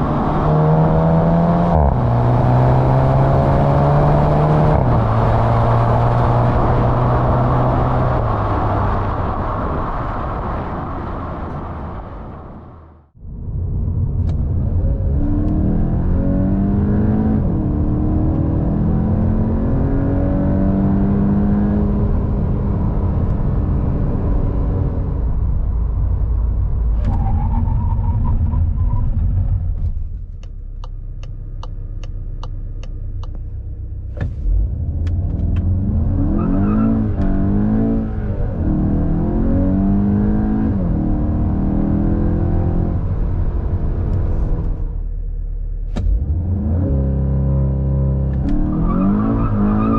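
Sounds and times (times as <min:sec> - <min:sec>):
car engine accelerating hard: 0:00.0 - 0:12.6, 0:14.2 - 0:29.6, 0:34.1 - 0:49.9.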